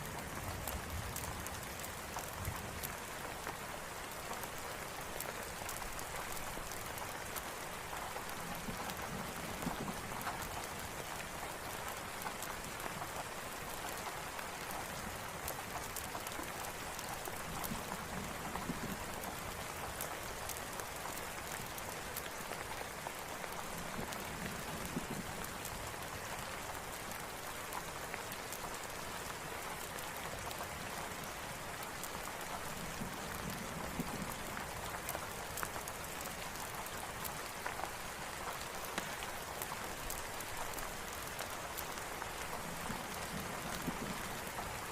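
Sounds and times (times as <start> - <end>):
campfire crackling: 0.0 - 44.9
rain hiss: 0.0 - 44.9.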